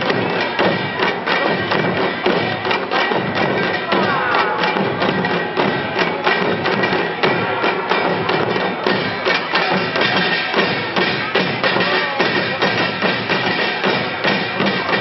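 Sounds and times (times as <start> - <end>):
hourglass drums fast rhythm: 0.0 - 15.0.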